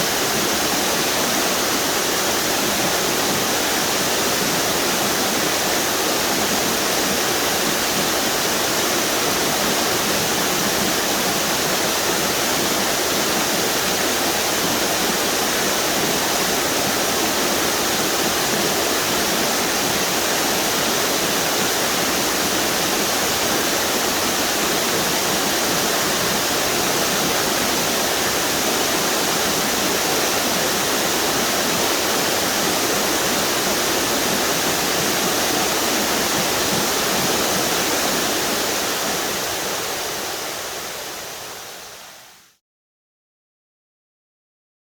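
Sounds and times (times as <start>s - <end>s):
waterfall rushing: 0.0s - 42.4s.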